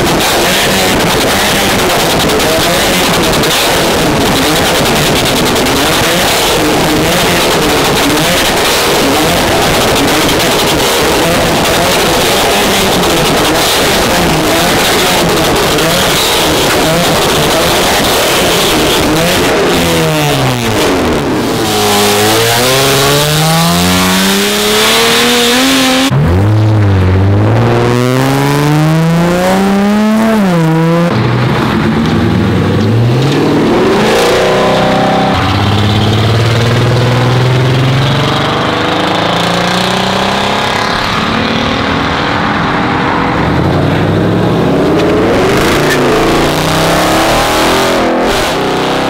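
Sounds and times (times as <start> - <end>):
car accelerating away: 0.0 - 49.0
car engines revving hard: 0.0 - 49.0
exhaust popping and crackling: 0.0 - 49.0.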